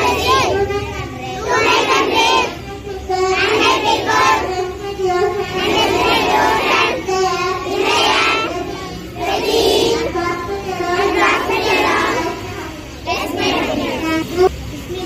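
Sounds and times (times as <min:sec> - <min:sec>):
children singing: 0:00.0 - 0:14.5.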